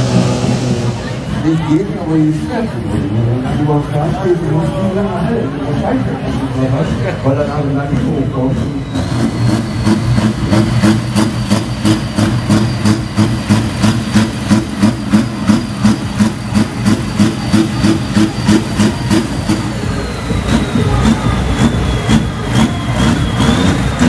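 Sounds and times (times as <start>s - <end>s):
diesel tractor engine idling: 0.0s - 24.0s.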